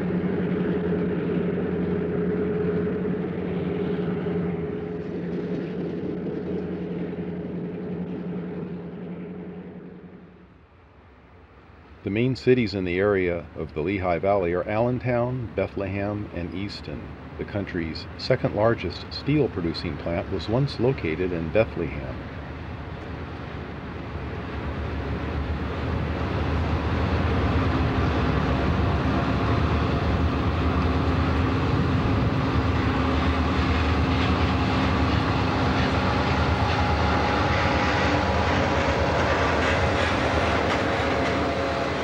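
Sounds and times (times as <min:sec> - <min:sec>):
diesel locomotives hauling freight train: 0:00.0 - 0:42.0.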